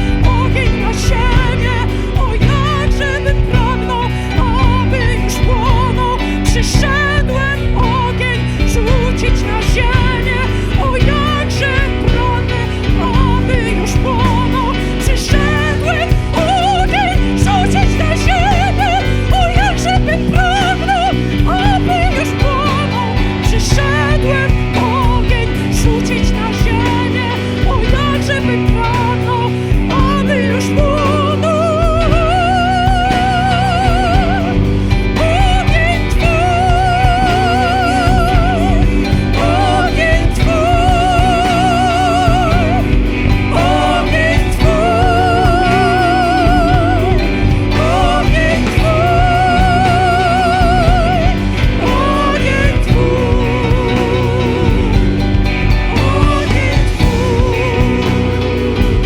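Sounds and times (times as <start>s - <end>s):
person singing with vibrato: 0.0s - 59.0s
worship band playing: 0.0s - 59.0s.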